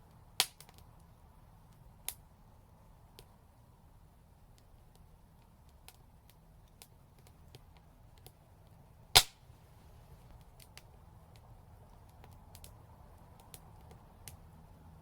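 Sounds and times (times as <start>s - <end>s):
burning wood popping: 0.0s - 2.3s, 4.3s - 14.5s
wood fire crackling: 0.0s - 15.0s.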